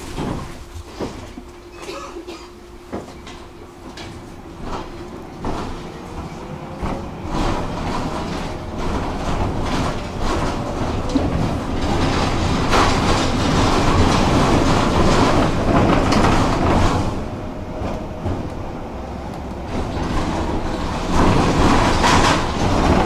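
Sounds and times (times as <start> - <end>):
tram rumbling on tracks: 0.0 - 23.0.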